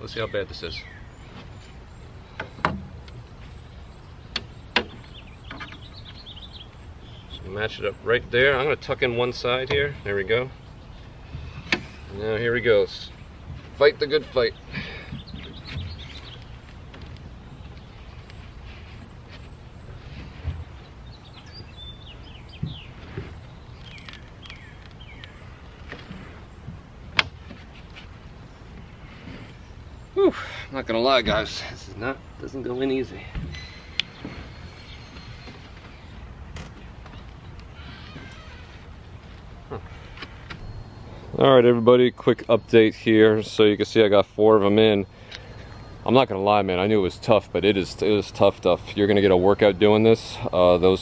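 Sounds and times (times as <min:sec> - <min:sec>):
bird chirping: 0:00.0 - 0:51.0
low outdoor hum: 0:00.0 - 0:51.0.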